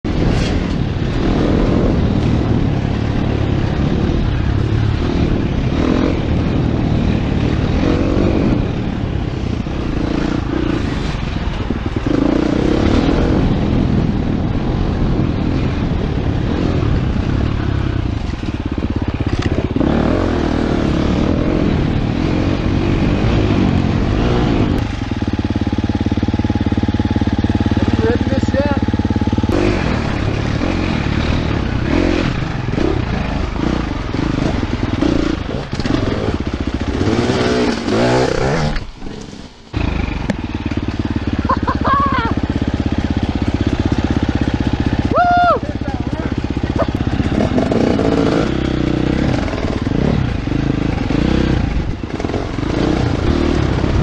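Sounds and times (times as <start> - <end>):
dirt bike engine revving: 0.1 - 54.0.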